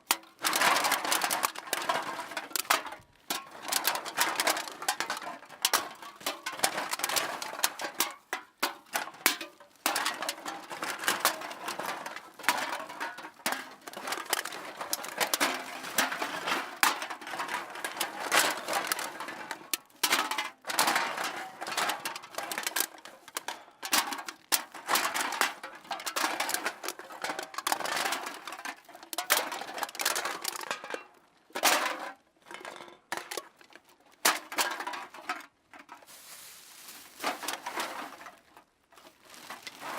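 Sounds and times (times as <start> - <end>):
metal cans clinking and rattling: 0.0 - 39.9.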